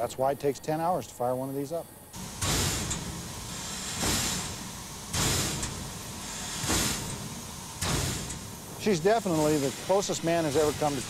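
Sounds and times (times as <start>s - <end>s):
steam locomotive hissing blasts: 1.6s - 11.0s.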